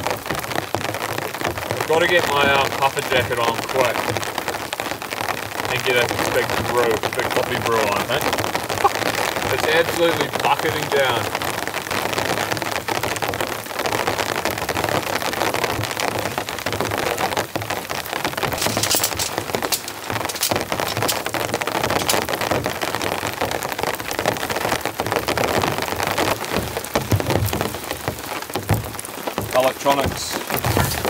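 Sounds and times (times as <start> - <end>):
heavy rain on a tarp: 0.0 - 31.0.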